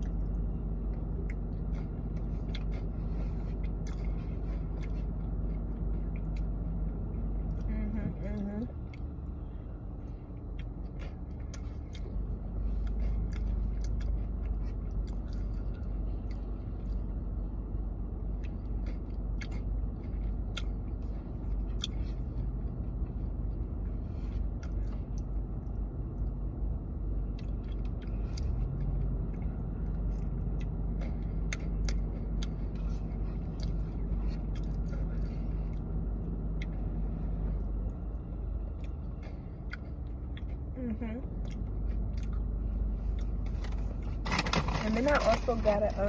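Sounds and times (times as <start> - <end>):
chewing and crunching food: 0.0 - 46.0.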